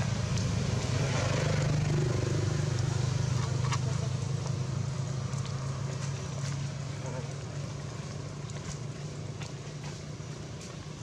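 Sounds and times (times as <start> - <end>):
low hum of engine: 0.0 - 11.0.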